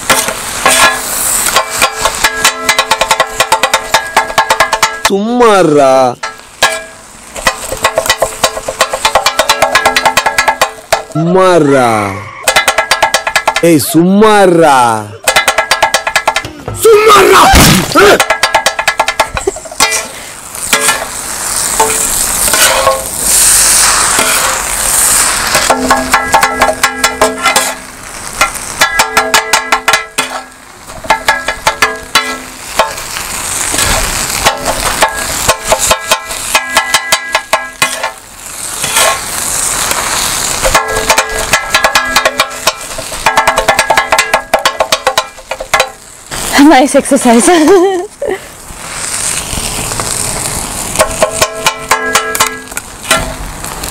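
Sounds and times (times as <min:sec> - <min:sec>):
metal blades clanging on griddle: 0:00.0 - 0:11.2, 0:11.8 - 0:13.9, 0:14.7 - 0:17.1, 0:17.9 - 0:46.4, 0:50.0 - 0:53.5
food scraping and sizzling: 0:00.0 - 0:53.9.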